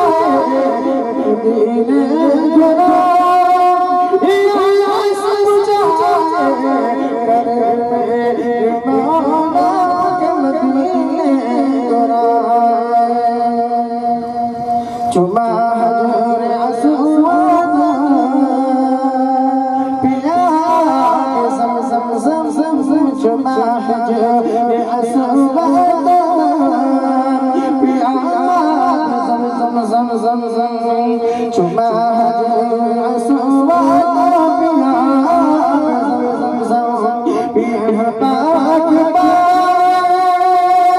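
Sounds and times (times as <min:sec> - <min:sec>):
men singing a devotional chant: 0:00.0 - 0:40.9.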